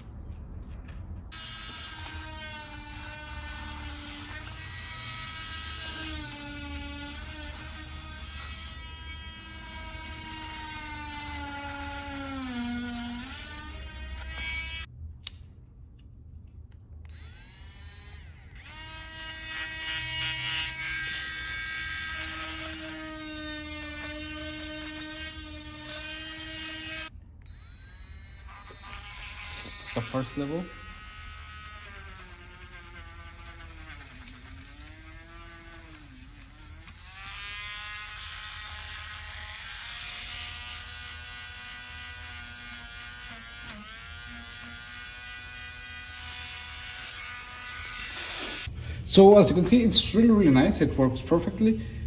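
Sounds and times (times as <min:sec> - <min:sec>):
rotary tool motor whine: 0:01.3 - 0:14.9, 0:17.0 - 0:48.7.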